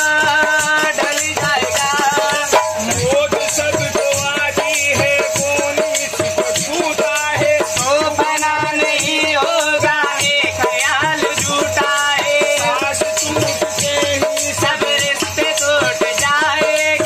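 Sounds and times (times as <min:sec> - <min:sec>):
hand drums in folk rhythm: 0:00.0 - 0:17.0
man singing: 0:00.0 - 0:17.0.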